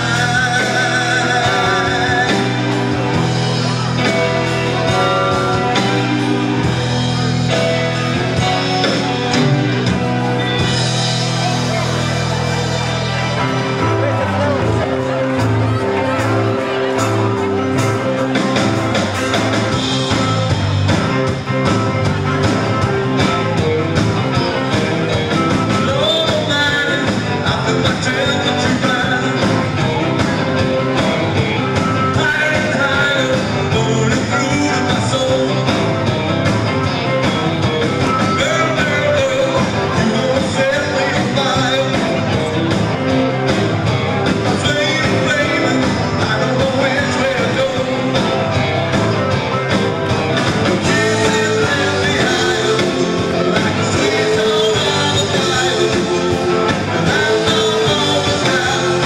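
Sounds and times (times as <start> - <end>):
drums: 0.0 - 59.0
electric guitar: 0.0 - 59.0
keyboards: 0.0 - 59.0
rock band playing dance music: 0.0 - 59.0.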